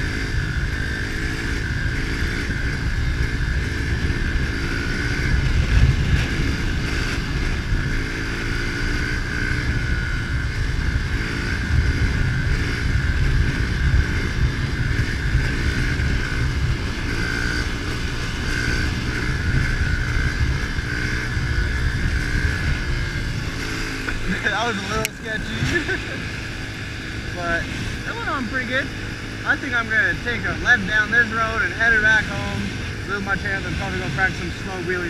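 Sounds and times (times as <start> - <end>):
wind on microphone: 0.0 - 28.4
motorbike engine running: 0.0 - 35.0.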